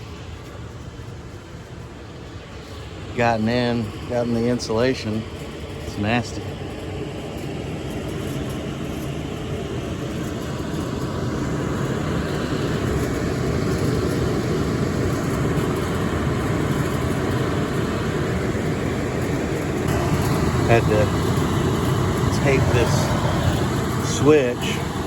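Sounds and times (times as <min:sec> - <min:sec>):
furnace blower fan rushing air: 0:00.0 - 0:25.0.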